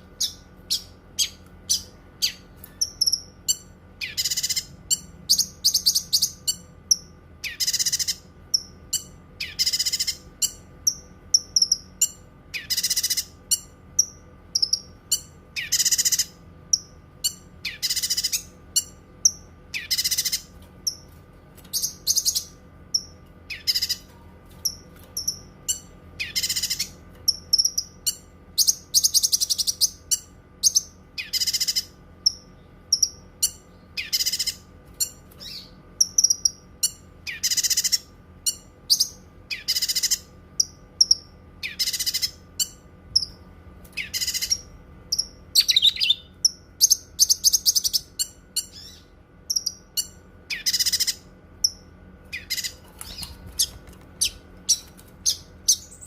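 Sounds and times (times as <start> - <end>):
songbird singing: 0.0 - 21.1, 21.7 - 56.0.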